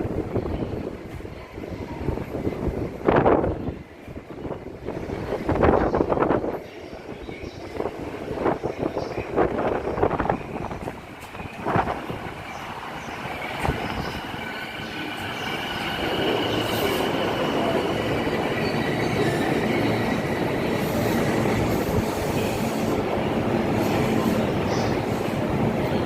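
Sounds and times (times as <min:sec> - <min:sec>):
electric train moving: 0:00.0 - 0:26.0.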